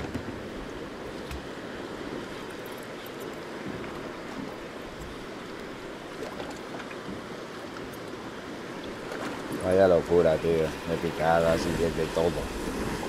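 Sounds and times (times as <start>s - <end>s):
sea water washing: 0.0s - 13.0s.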